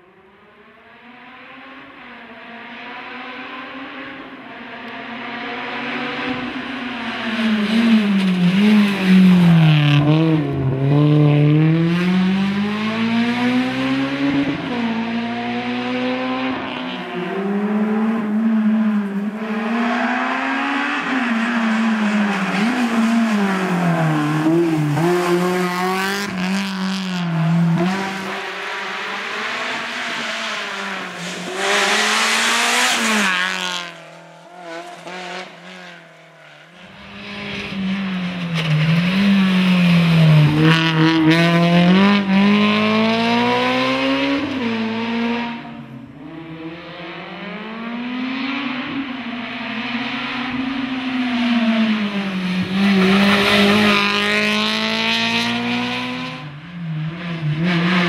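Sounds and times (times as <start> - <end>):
rally car engine revving: 4.8 - 58.0.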